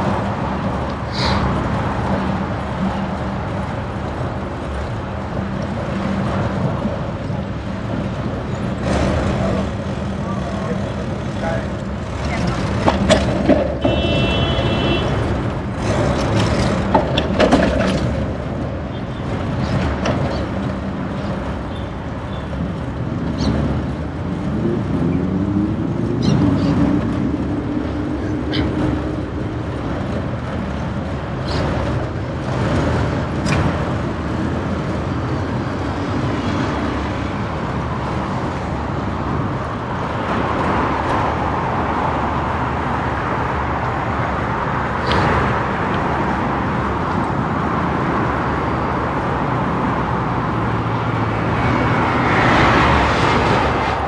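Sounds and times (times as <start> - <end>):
motor vehicles passing: 0.0 - 54.0.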